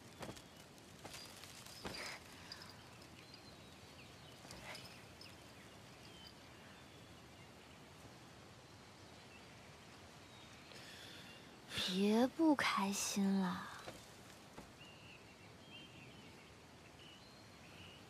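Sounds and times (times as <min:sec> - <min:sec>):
soft bird chirps: 0:00.0 - 0:18.0.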